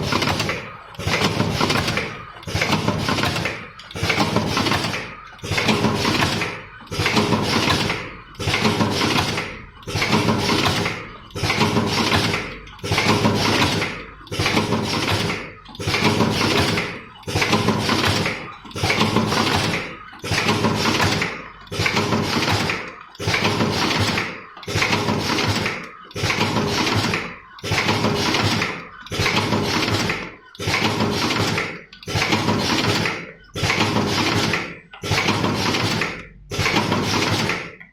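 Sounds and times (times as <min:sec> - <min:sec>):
cartoning machine running: 0:00.0 - 0:37.8.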